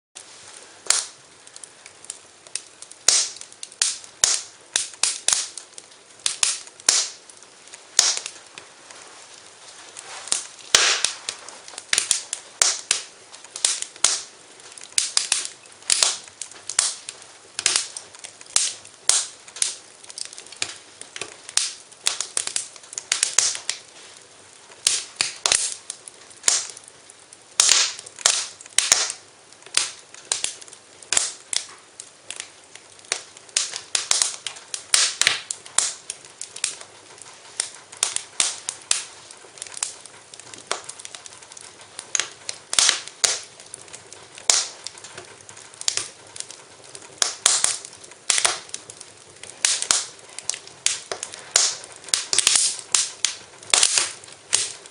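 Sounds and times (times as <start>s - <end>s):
wood fire crackling: 0.2s - 54.9s.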